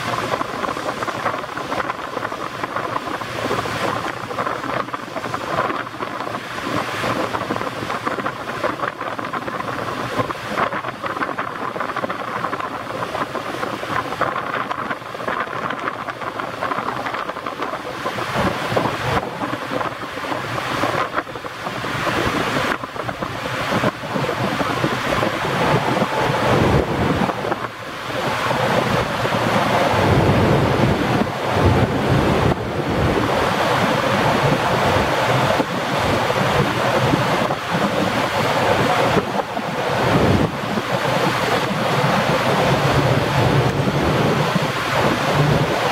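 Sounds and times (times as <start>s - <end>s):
rushing waterjets and spray: 0.0s - 45.9s
wind buffeting microphone: 0.0s - 45.9s.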